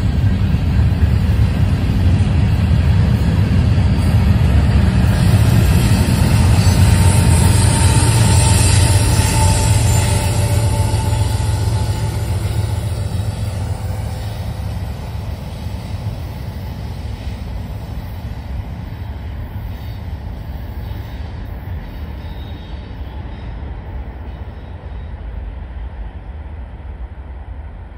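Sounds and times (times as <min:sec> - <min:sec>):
freight train rumbling: 0:00.0 - 0:27.9.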